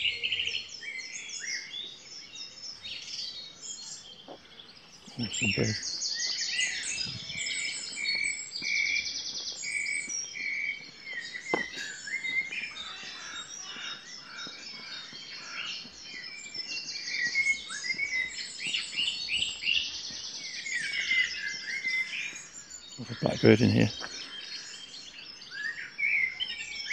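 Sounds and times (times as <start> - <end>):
songbirds singing: 0.0 - 26.9.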